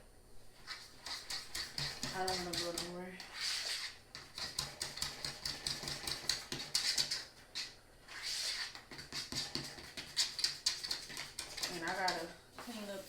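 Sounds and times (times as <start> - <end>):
fork beating batter in bowl: 0.6 - 13.0.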